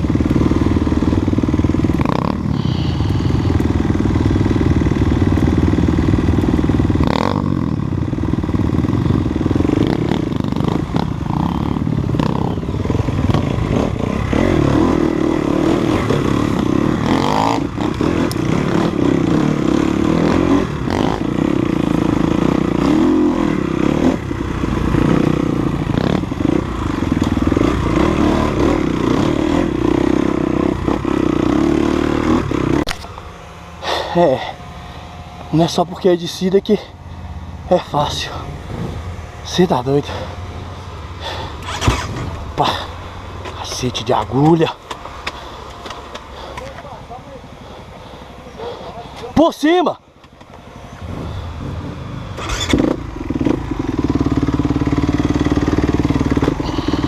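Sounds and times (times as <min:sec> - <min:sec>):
dirt bike engine revving: 0:00.0 - 0:49.9, 0:50.7 - 0:57.0.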